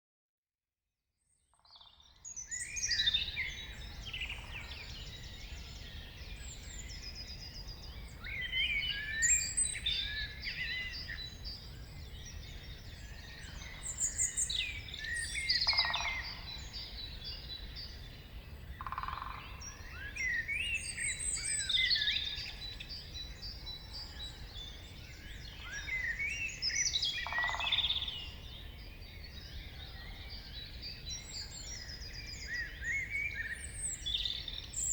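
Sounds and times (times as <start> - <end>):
songbirds singing and chirping: 1.7 - 34.9.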